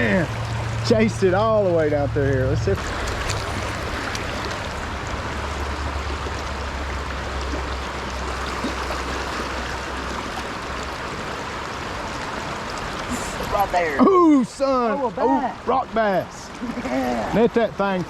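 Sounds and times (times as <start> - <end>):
creek water running: 0.0 - 18.0.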